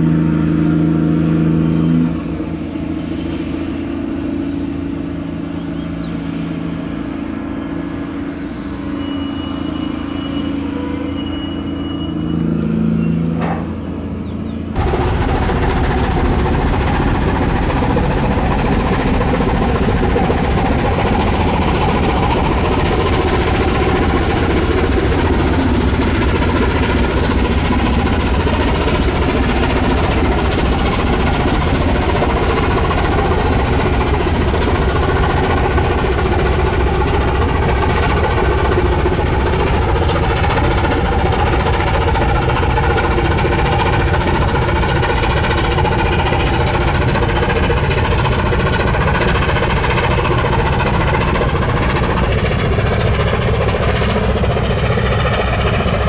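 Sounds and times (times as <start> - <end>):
ship diesel engine running: 0.0 - 56.0.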